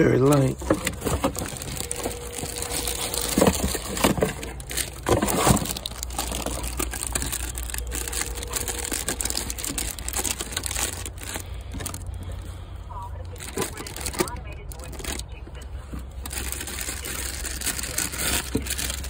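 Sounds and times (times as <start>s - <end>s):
plastic packaging crinkling: 0.0s - 12.3s, 13.2s - 15.4s, 16.1s - 19.0s
steady low hum: 0.0s - 16.5s.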